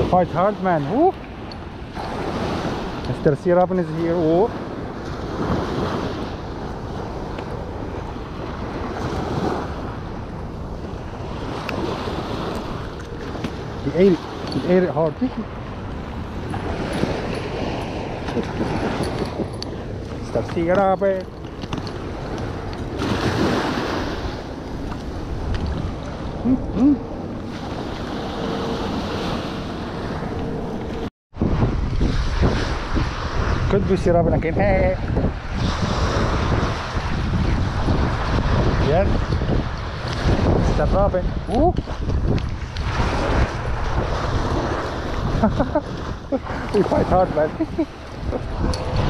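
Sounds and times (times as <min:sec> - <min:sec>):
waves breaking on beach: 0:00.0 - 0:49.0
wind buffeting microphone: 0:00.0 - 0:49.0.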